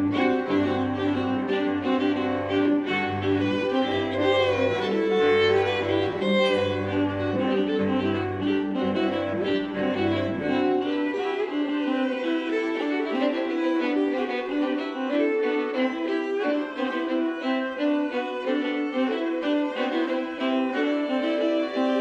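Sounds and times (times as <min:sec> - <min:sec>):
string quartet playing: 0:00.0 - 0:22.0.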